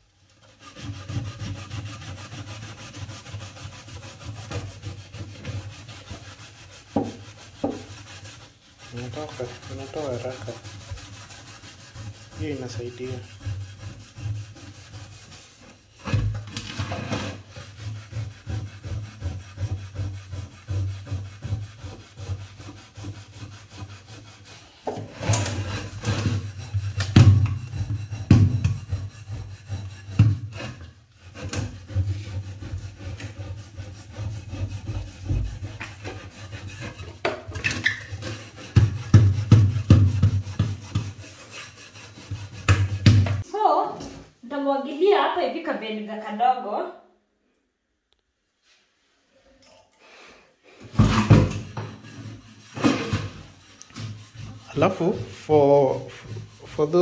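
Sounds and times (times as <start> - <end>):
scouring pad scrubbing pan: 0.2 - 43.8, 50.9 - 57.0.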